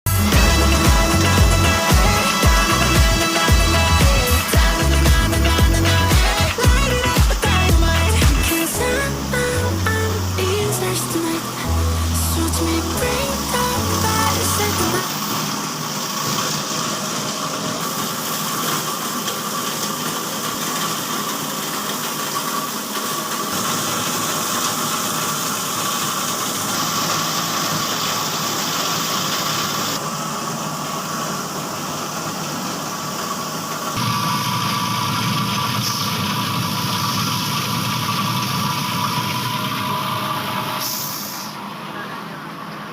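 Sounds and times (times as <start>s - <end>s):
plastic crusher machine humming: 0.1s - 42.9s.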